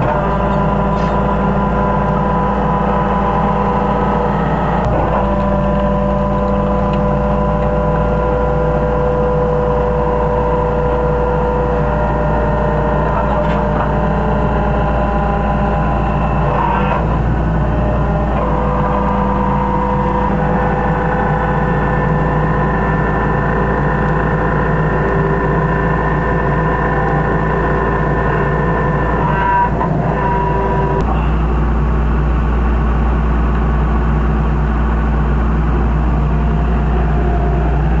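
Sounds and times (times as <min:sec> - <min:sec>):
press machine motor hum: 0:00.0 - 0:31.3.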